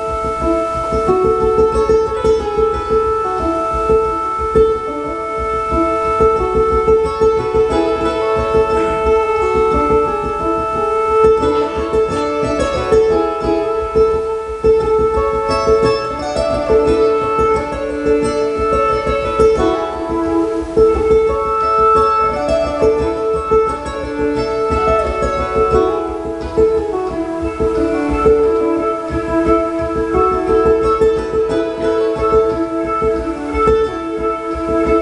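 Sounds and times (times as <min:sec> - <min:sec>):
bowed cello note: 0:00.0 - 0:35.0
ukulele picking: 0:00.0 - 0:35.0.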